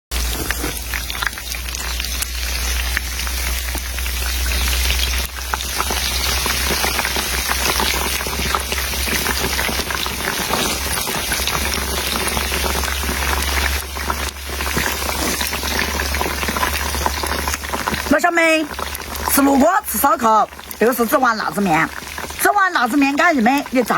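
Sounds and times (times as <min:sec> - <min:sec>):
food sizzling in hot oil: 0:00.1 - 0:23.9.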